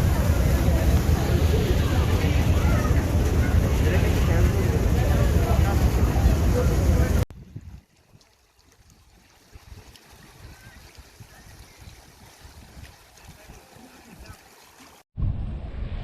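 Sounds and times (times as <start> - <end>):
water trickling and lapping: 0.0 - 15.1.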